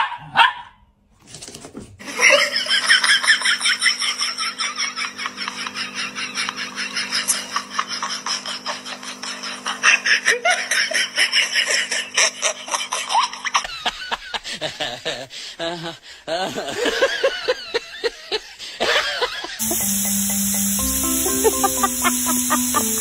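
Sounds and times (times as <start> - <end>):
person laughing: 2.0 - 19.9, 21.0 - 23.0.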